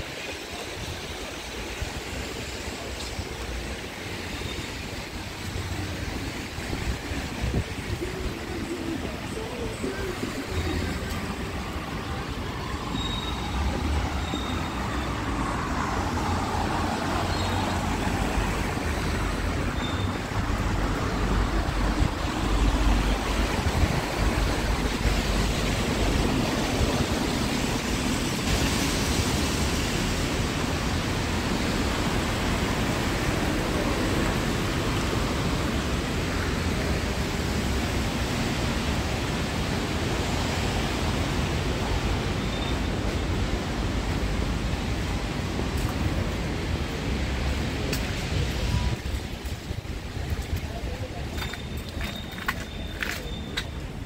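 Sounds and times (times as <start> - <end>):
cars and buses passing: 0.0 - 54.0.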